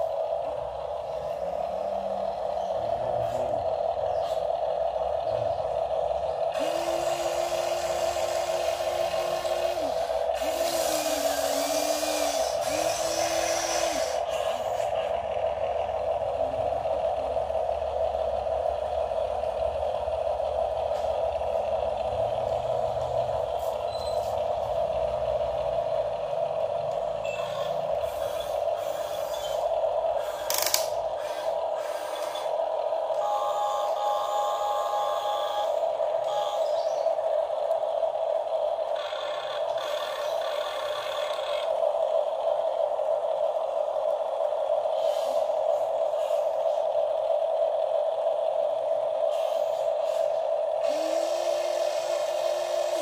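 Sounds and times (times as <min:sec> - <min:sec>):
electric motors whining: 0:00.0 - 0:53.0.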